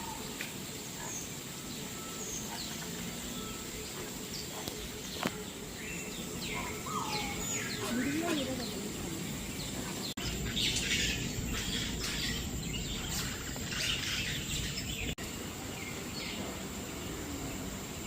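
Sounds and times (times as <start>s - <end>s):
birds chirping: 0.0s - 18.0s
steady background noise: 0.0s - 18.0s.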